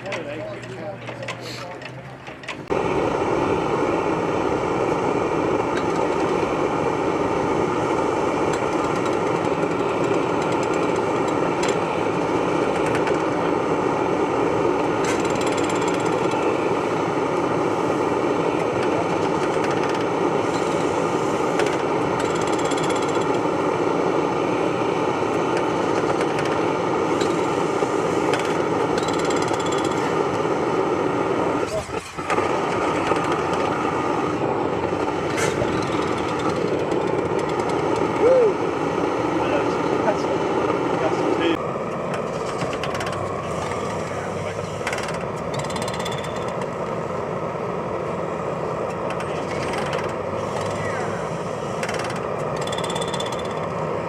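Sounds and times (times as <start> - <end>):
antique engine running: 0.0 - 54.0.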